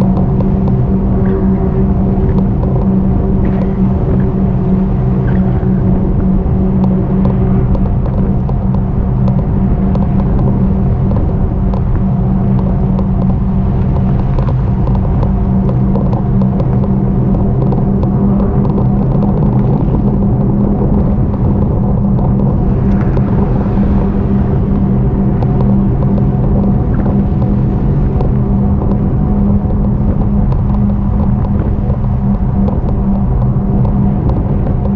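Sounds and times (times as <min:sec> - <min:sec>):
constant low hum: 0:00.0 - 0:34.9
faint ticks: 0:00.0 - 0:34.9
wind and road rumble: 0:00.0 - 0:34.9.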